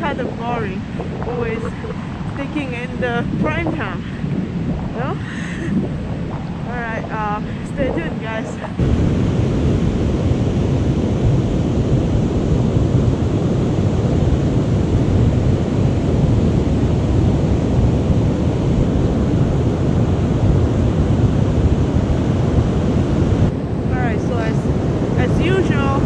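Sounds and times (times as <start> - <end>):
heavy ocean surf rumbling: 0.0 - 26.0
wind buffeting microphone: 0.0 - 26.0.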